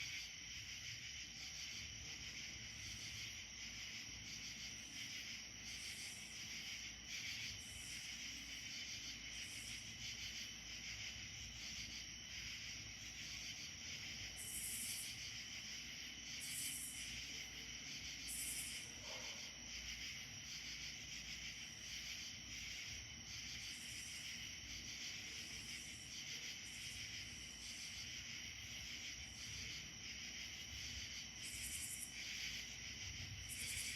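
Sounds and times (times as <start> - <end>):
crickets trilling: 0.0 - 33.9.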